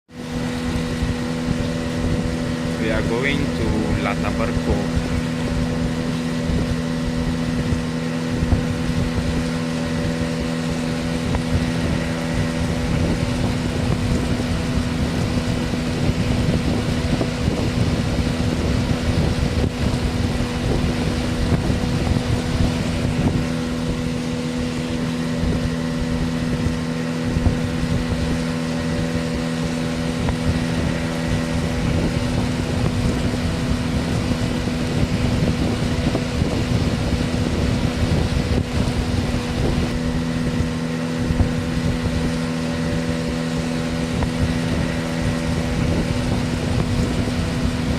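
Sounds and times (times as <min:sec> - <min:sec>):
motorboat engine running: 0:00.0 - 0:47.9
wind on microphone: 0:00.1 - 0:47.9.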